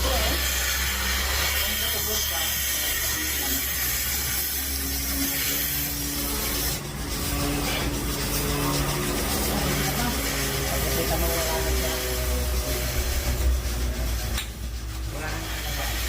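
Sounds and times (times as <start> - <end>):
milking machine hiss: 0.0 - 16.0.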